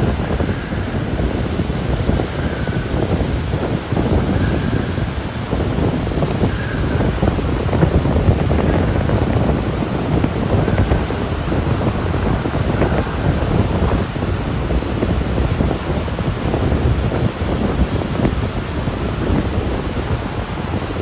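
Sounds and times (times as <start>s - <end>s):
waterfall rushing: 0.0s - 21.0s
wind buffeting microphone: 0.0s - 21.0s.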